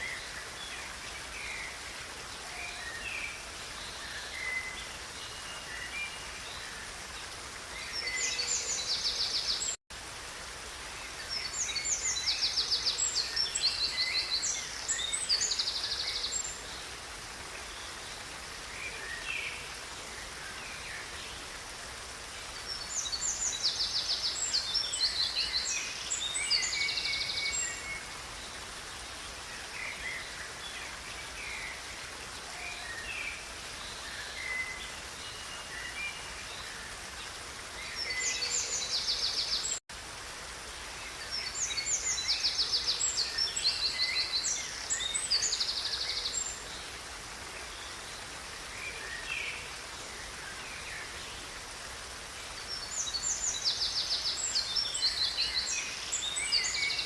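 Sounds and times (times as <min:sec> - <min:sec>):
songbirds singing: 0:00.0 - 0:39.8, 0:40.8 - 0:57.0
river rushing: 0:00.0 - 0:57.0.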